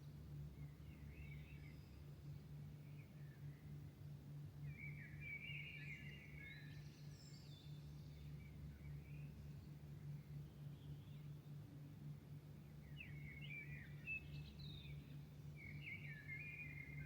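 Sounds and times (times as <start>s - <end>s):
faint birdsong: 0.0s - 17.0s
steady low hum: 0.0s - 17.0s.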